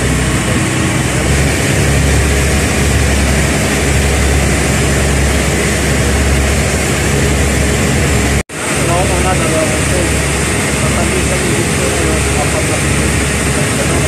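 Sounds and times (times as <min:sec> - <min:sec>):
ferry engines low drone: 0:00.0 - 0:14.0
water rushing in wake: 0:00.0 - 0:14.0.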